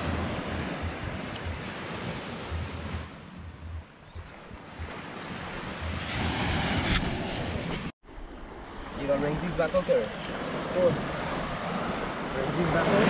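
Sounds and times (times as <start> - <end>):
surf on the shore: 0.0 - 13.0
wind buffeting microphone: 0.0 - 13.0.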